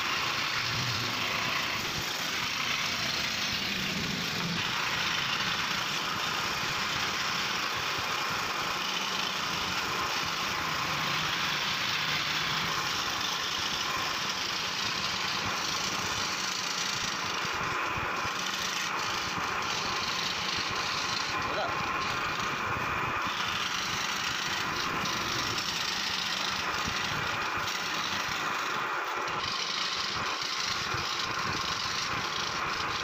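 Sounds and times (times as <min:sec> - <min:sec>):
electric jigsaw cutting wood: 0:00.0 - 0:33.0.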